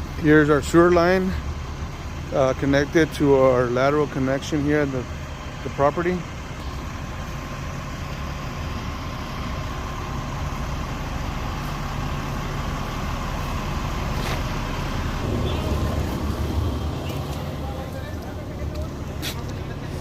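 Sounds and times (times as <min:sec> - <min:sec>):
heavy truck engine humming: 0:00.0 - 0:20.0.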